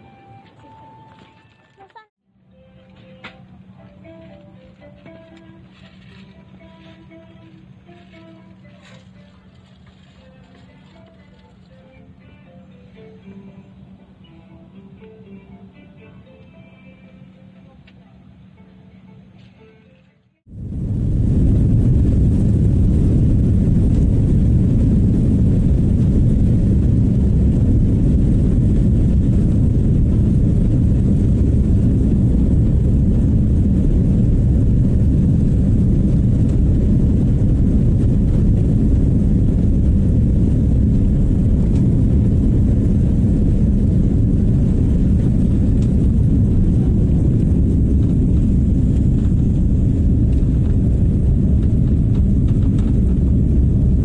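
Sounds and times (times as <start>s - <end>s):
jet engines roaring at takeoff: 2.6s - 15.6s, 20.5s - 54.0s
wheels rumbling on runway: 2.6s - 15.6s, 20.5s - 54.0s.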